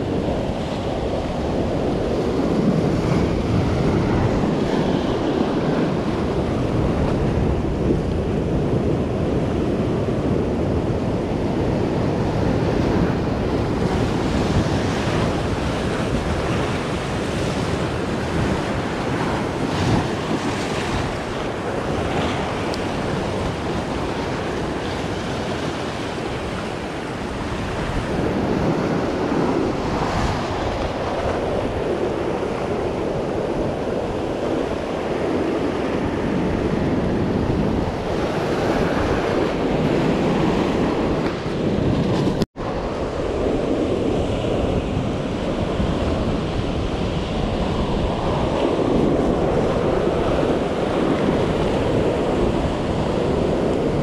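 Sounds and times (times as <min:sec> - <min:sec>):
surf breaking on rocky shore: 0:00.0 - 0:54.0.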